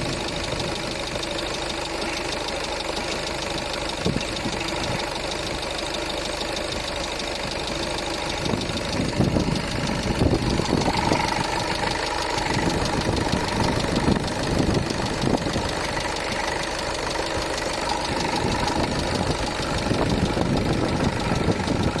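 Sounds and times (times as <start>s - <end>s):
diesel engine idling with knocking: 0.0s - 22.0s.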